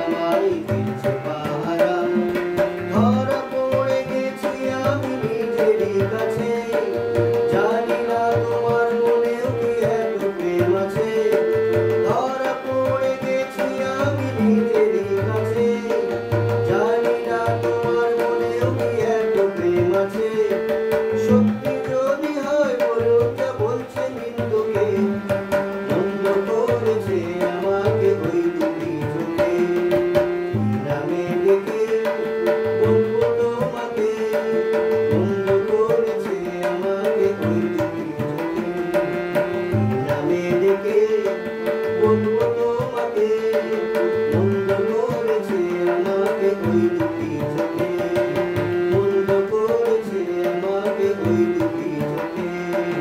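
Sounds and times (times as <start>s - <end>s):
harmonium melody: 0.0s - 53.0s
man singing: 0.0s - 53.0s
tabla beat: 0.0s - 53.0s.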